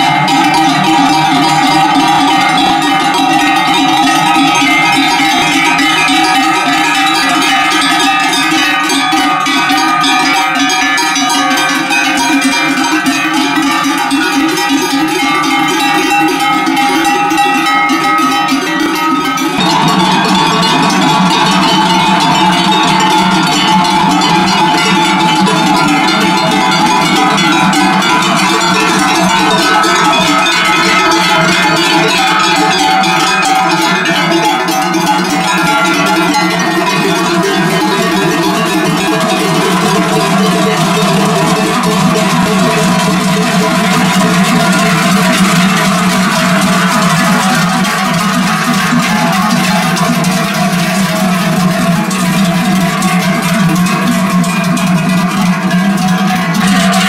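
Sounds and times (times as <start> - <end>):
cowbells clanging: 0.0 - 57.0.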